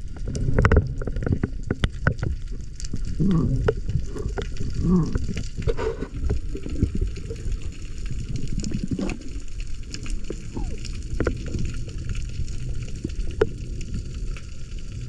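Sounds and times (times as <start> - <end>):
water sloshing and gurgling: 0.0 - 15.0.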